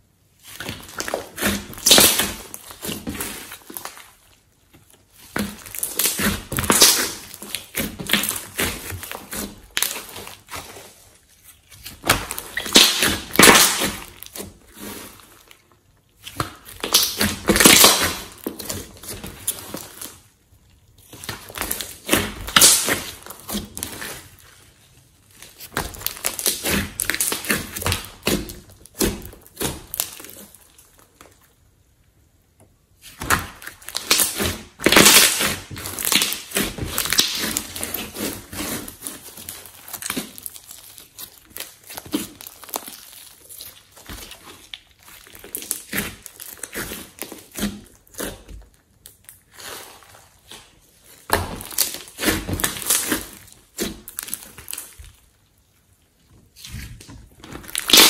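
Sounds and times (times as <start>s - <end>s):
slime squishing and popping: 0.4s - 31.7s, 33.0s - 55.4s, 56.6s - 58.0s.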